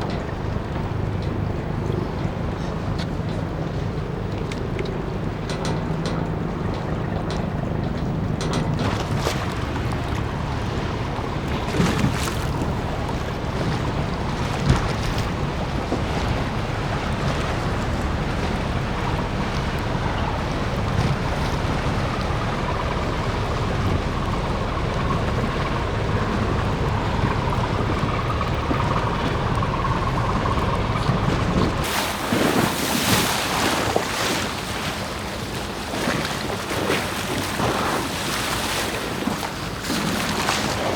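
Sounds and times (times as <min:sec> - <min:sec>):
boat engine running: 0:00.0 - 0:40.9
water noise: 0:00.0 - 0:40.9.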